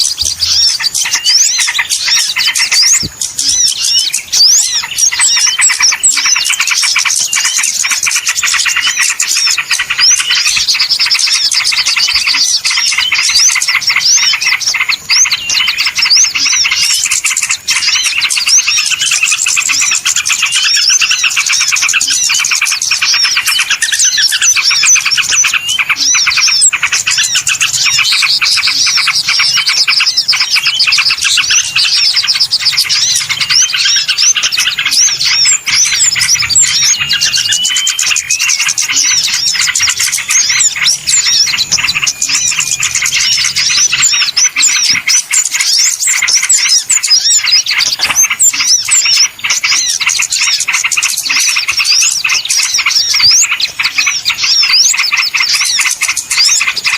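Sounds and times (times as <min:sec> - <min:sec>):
songbirds chirping: 0:00.0 - 0:56.9.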